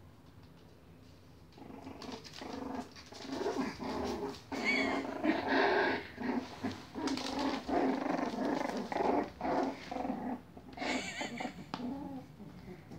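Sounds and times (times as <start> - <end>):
puppies growling and grunting: 1.5 - 12.9.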